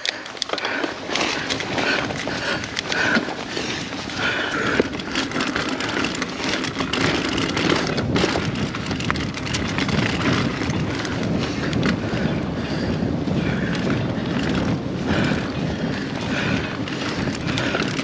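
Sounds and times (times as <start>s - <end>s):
bike rattling clicks and knocks: 0.0s - 18.0s
tyre and trail noise: 0.0s - 18.0s.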